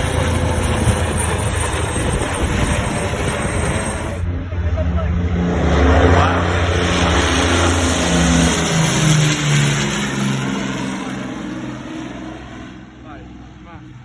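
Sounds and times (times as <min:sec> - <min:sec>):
airplane engine passing on take-off: 0:00.0 - 0:14.0.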